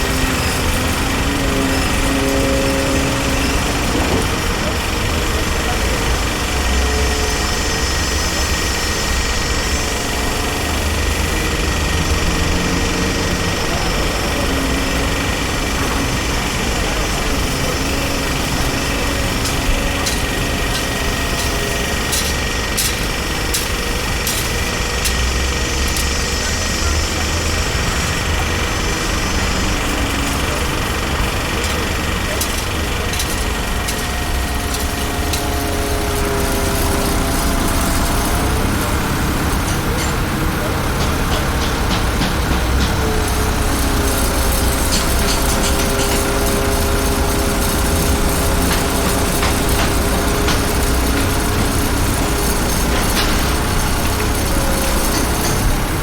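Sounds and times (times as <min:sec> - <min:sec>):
construction machinery engine drone: 0:00.0 - 0:56.0.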